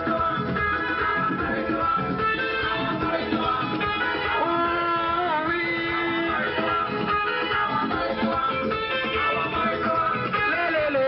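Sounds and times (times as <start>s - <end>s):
live dance band playing: 0.0s - 11.0s.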